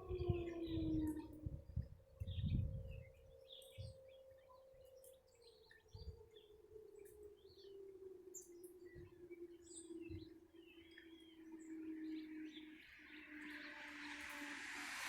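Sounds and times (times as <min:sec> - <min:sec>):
distant warning siren: 0:00.0 - 0:15.0.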